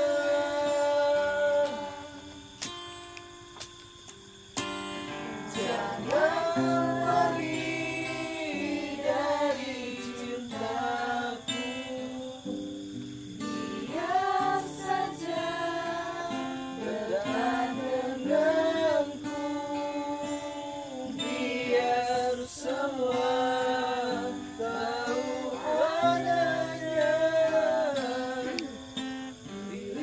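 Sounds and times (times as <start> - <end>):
group of people singing: 0.0 - 2.6, 5.3 - 30.0
acoustic guitar strumming: 4.6 - 30.0.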